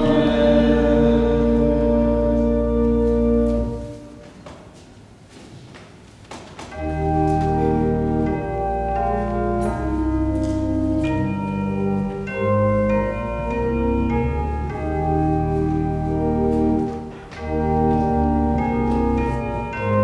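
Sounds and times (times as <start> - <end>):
church organ chords: 0.0 - 4.4, 6.7 - 20.0.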